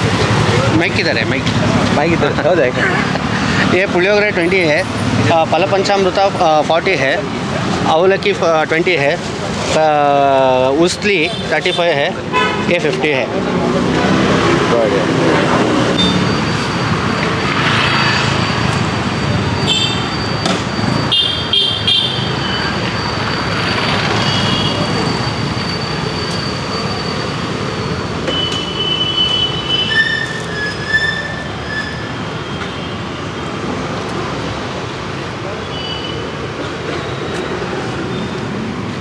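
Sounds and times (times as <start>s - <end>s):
busy street traffic: 0.0s - 39.0s.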